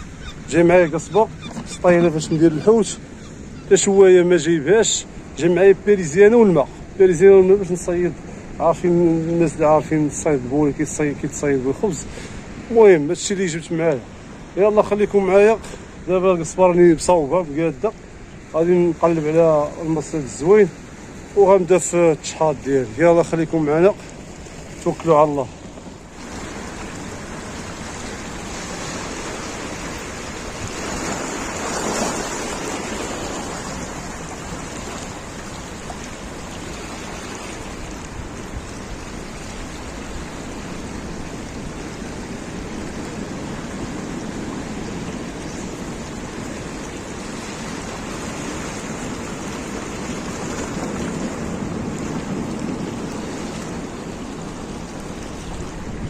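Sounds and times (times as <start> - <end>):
sea waves breaking: 0.0 - 56.0.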